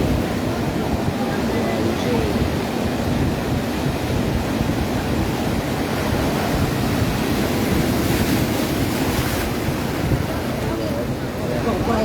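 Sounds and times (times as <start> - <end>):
surf washing onto beach: 0.0 - 12.0
wind on microphone: 0.0 - 12.0.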